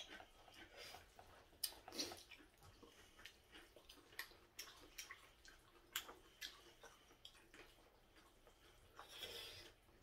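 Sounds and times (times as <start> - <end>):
person chewing noodles: 0.0 - 10.0.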